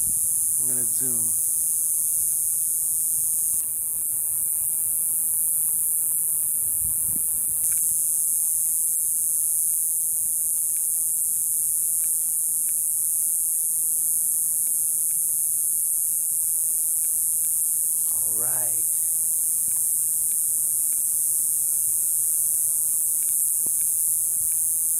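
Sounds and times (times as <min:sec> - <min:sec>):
cicada buzzing: 0:00.0 - 0:24.9.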